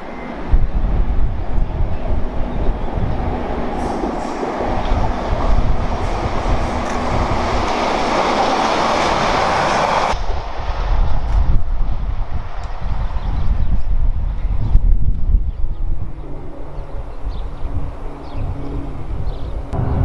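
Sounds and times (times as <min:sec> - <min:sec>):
electric train wheels rumbling on rails: 0:00.0 - 0:18.2.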